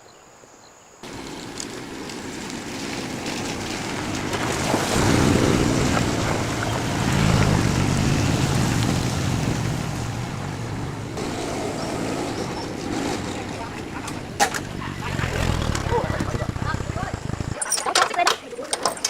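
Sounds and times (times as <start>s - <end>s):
low vehicle rumble: 1.0s - 17.6s
rushing wind noise: 1.0s - 17.6s.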